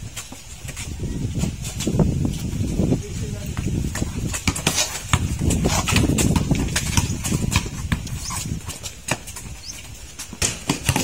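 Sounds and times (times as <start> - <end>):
basketball bouncing on concrete: 0.0 - 11.0.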